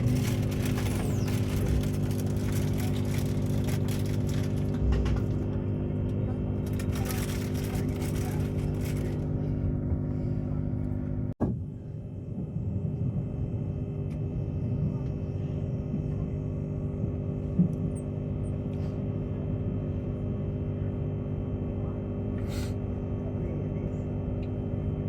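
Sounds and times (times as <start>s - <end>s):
train cabin rumble and hum: 0.0s - 25.0s.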